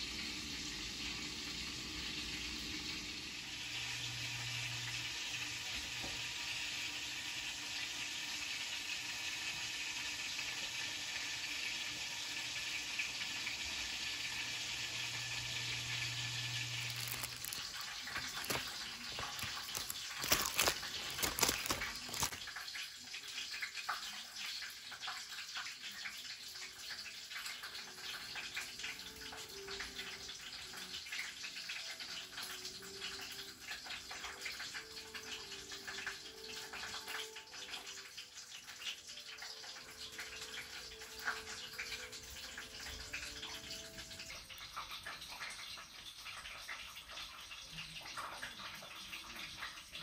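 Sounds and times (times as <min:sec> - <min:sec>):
fish sizzling in foil: 0:00.1 - 0:49.7.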